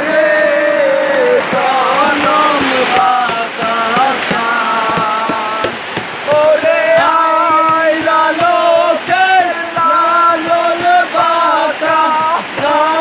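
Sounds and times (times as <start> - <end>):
group singing: 0.0 - 13.0
steady tapping beat: 1.5 - 13.0.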